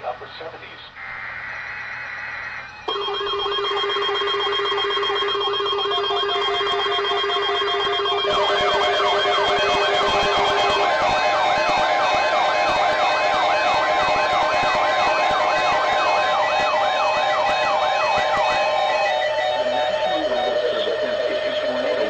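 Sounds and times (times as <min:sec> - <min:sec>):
siren-like sweep: 0:01.0 - 0:22.0
steady alarm tones: 0:01.0 - 0:22.0.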